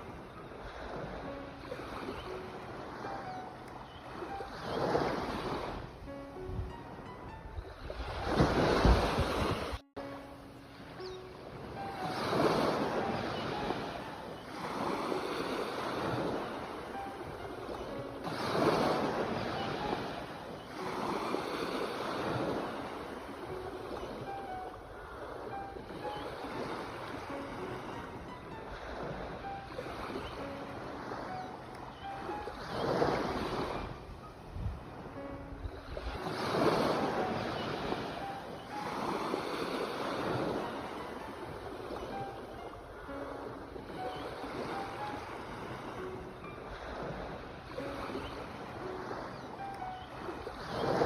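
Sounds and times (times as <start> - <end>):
sea waves breaking on shore: 0.0 - 51.0.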